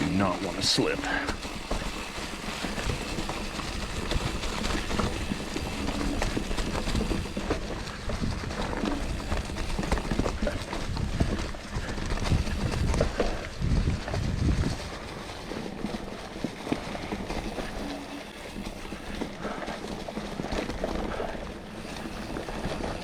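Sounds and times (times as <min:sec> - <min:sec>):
tyres crunching through dry leaves: 0:00.0 - 0:22.8
bike knocking and rattling: 0:00.0 - 0:23.0.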